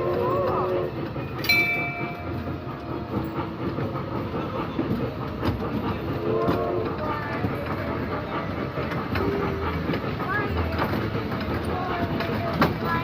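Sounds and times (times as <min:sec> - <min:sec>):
ride train rumbling on track: 0:00.0 - 0:13.0.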